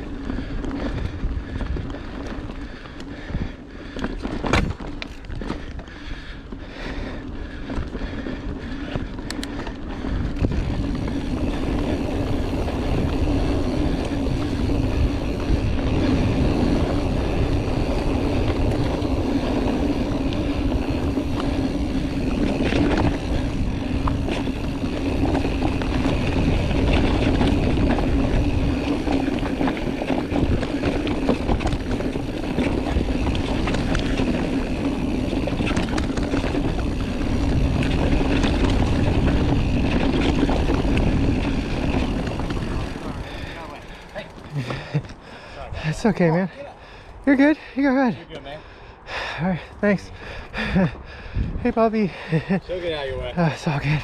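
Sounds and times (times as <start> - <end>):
wind buffeting microphone: 0.0 - 46.2, 49.7 - 54.0
bike frame rattle: 0.0 - 46.6
bike tyre rumble: 0.0 - 54.0.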